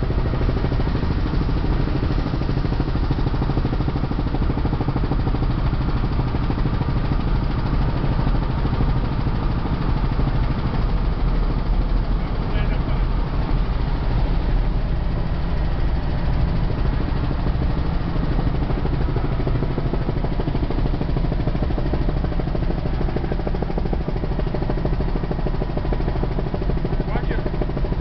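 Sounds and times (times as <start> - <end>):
helicopter engine and rotor drone: 0.0 - 28.0.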